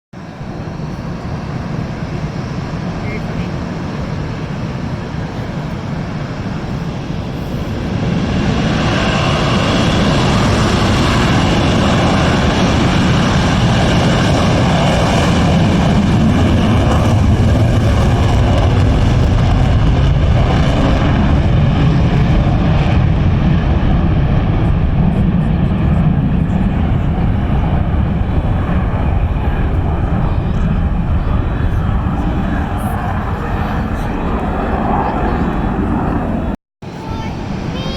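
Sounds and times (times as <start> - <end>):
jet engines roaring: 0.2 - 37.9.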